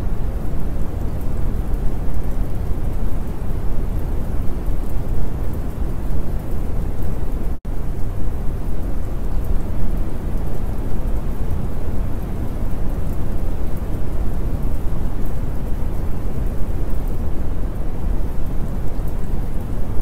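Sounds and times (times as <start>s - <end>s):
continuous rainfall: 0.0s - 20.0s.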